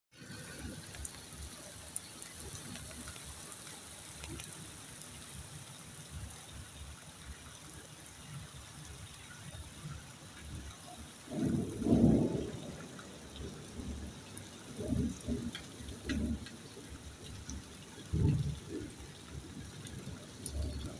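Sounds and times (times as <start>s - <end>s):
steady rain falling: 0.1s - 20.9s.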